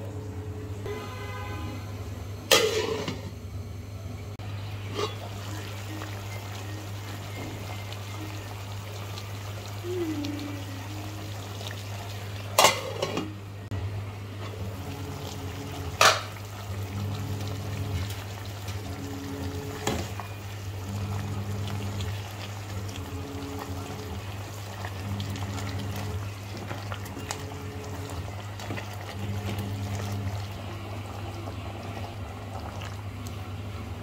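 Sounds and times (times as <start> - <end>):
low hum: 0.0 - 34.0
curry cooking in a pot: 4.4 - 34.0.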